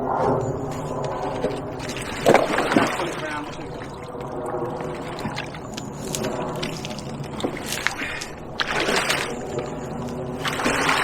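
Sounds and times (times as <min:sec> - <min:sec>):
water sloshing: 0:00.0 - 0:11.0
mud squelching: 0:00.1 - 0:11.0
splashy rush of water: 0:00.7 - 0:11.0.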